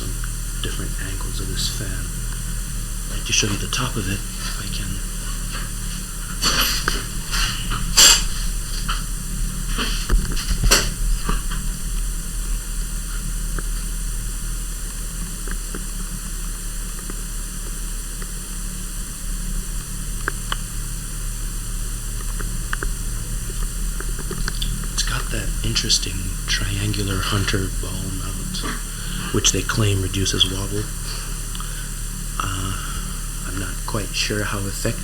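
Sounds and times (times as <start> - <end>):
faint ticks: 0.0 - 27.1, 30.9 - 33.7
steady hiss and hum: 0.0 - 35.0.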